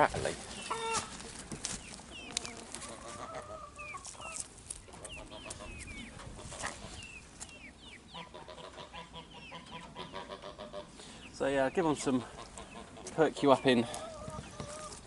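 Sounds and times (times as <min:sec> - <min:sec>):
chickens clucking: 0:00.0 - 0:15.0
geese honking: 0:00.4 - 0:15.0.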